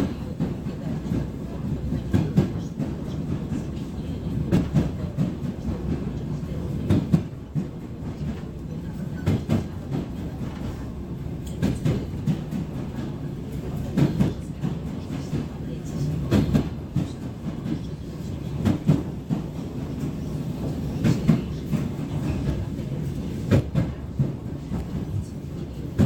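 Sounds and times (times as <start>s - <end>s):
low rumble of train running: 0.0s - 26.0s
train wheels clacking over rail joints: 0.0s - 26.0s.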